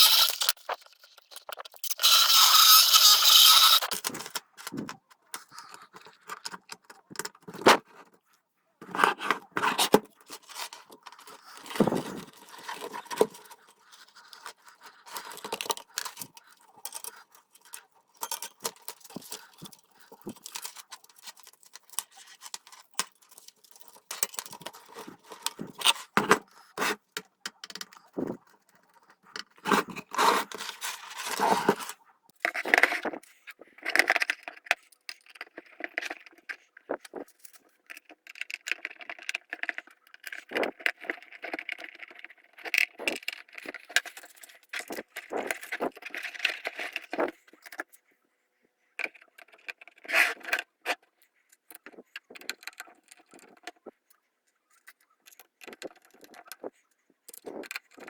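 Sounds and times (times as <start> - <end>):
small plastic and metal parts clicking: 0.0 - 8.0, 8.9 - 48.0, 49.0 - 58.0.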